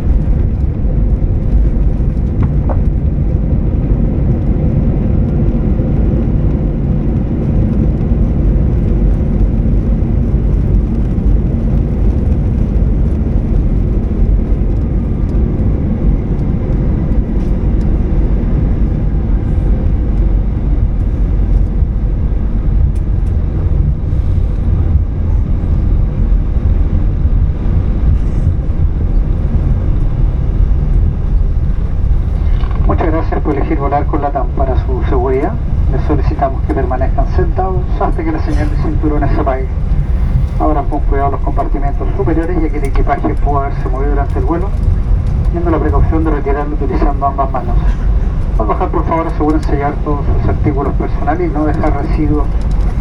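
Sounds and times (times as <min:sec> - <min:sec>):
low rumble of engines and airflow: 0:00.0 - 0:53.0.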